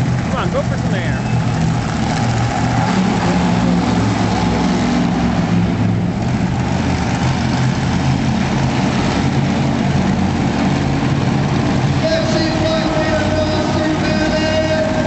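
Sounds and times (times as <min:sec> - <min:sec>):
truck engine running loudly: 0:00.0 - 0:15.0.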